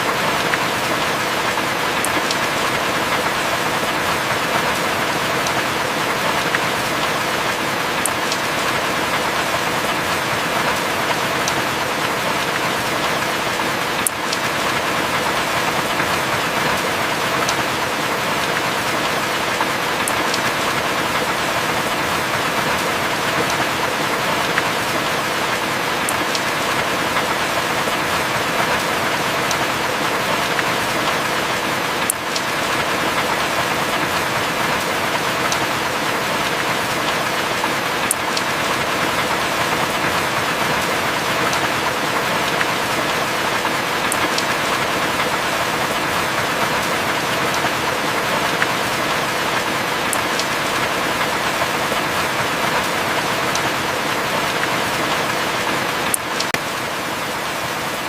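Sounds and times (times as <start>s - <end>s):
heavy rain falling: 0.0s - 58.0s
raindrop ticks: 0.1s - 31.3s, 32.0s - 54.8s.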